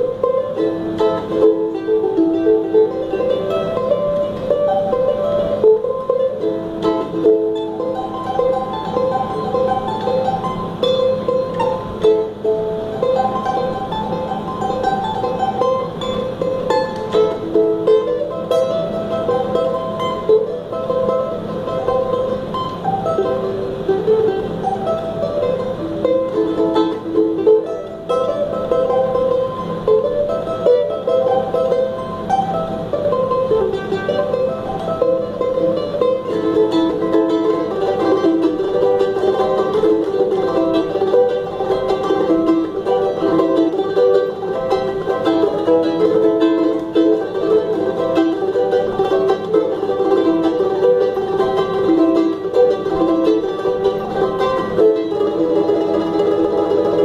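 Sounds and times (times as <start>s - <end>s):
charango plucked notes: 0.0s - 57.0s.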